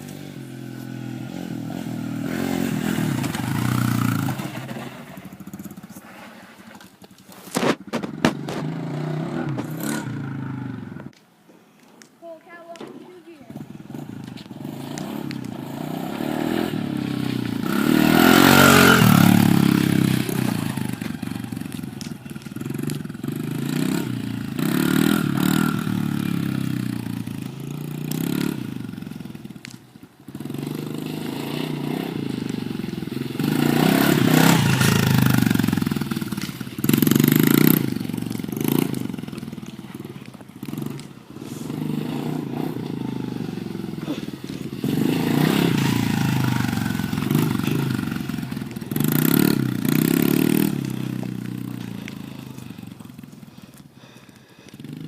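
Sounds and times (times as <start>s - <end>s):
dirt bike engine revving: 0.0s - 6.0s, 7.5s - 11.1s, 13.5s - 29.6s, 30.3s - 55.0s.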